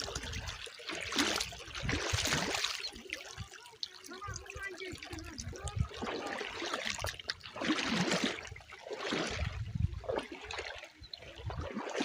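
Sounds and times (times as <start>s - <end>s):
stream water trickling: 0.0s - 12.0s.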